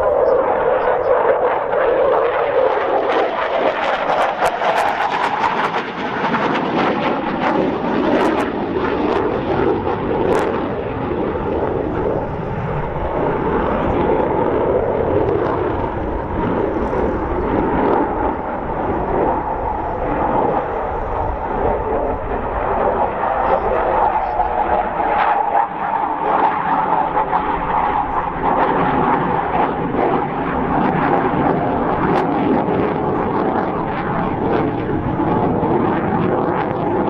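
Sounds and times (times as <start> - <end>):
jet engine noise in flight: 0.0 - 37.0.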